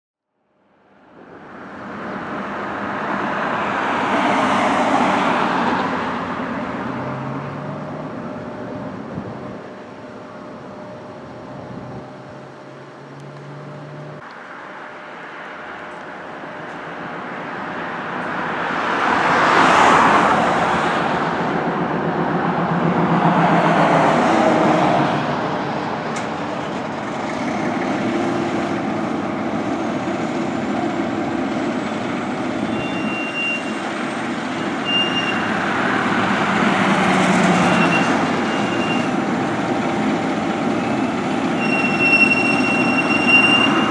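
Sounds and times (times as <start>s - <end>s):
cars driving by: 1.0s - 43.9s.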